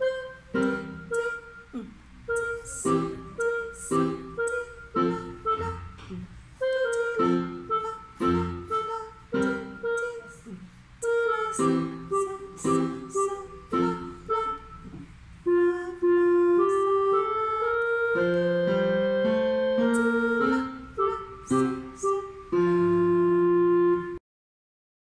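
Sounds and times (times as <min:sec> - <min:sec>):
electronic organ with clarinet voice: 0:00.0 - 0:24.2.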